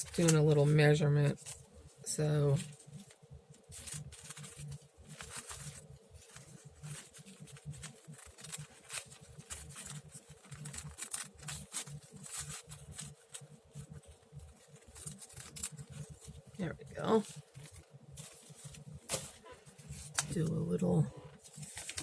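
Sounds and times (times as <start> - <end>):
paper rustling: 0.0 - 20.6, 21.4 - 22.0
faint steady hum: 0.0 - 22.0.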